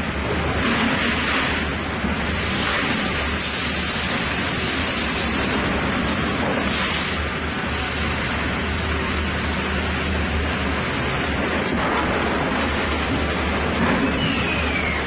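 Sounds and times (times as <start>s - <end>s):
falling whine: 1.5s - 15.0s.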